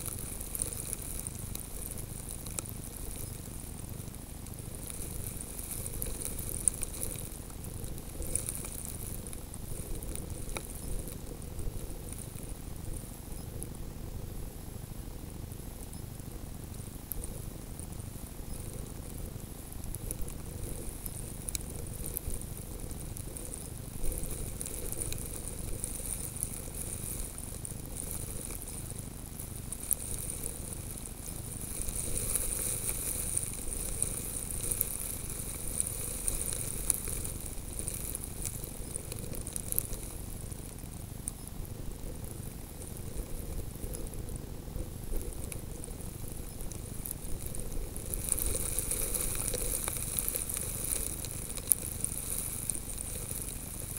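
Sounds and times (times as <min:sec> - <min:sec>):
snow grains ticking on camera: 0:00.0 - 0:53.9
steady high hiss: 0:00.0 - 0:53.9.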